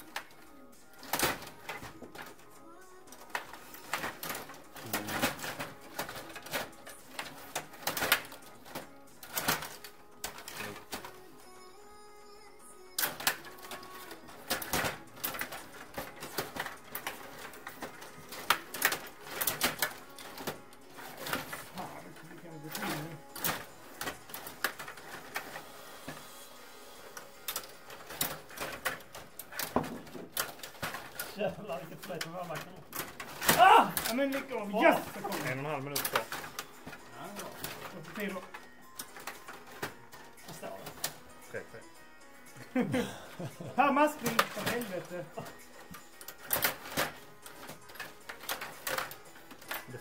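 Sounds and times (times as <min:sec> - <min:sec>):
table hockey rods clacking: 0:00.0 - 0:11.3, 0:13.0 - 0:26.4, 0:27.0 - 0:41.8, 0:43.8 - 0:50.0.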